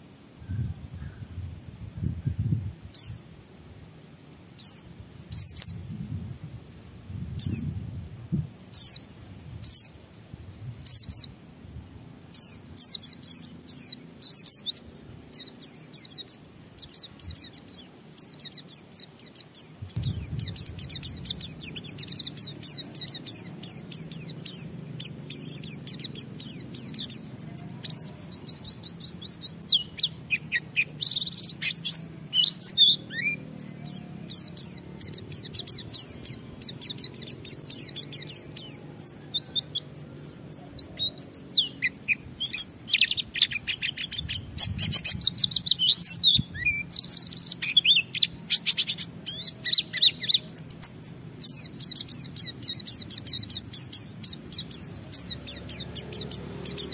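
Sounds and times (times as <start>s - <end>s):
white-eye bird singing: 2.0s - 56.9s.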